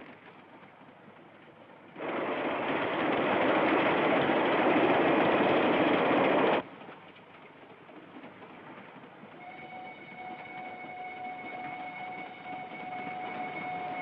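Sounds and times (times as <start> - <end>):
train rushing at speed: 0.0 - 14.0.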